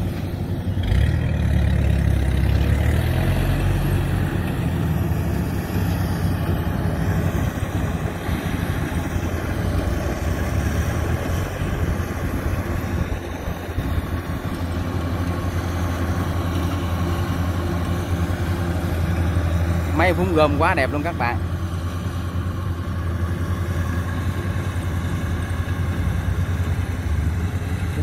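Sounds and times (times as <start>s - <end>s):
diesel engine drone: 0.0s - 28.0s
harvester machinery clatter: 0.0s - 28.0s.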